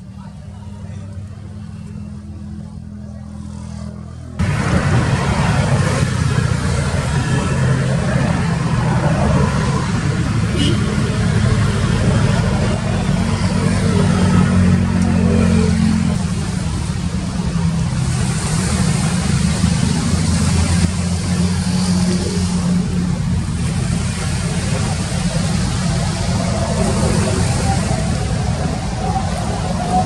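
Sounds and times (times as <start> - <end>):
ship engine droning: 0.0 - 30.0.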